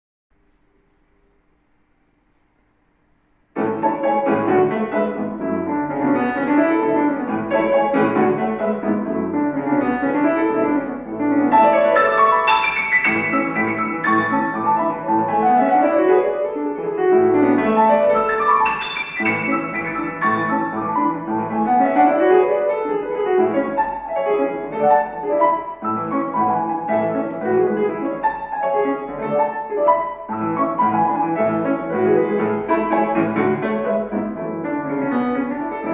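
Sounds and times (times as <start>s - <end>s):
solo classical piano: 0.4s - 35.9s.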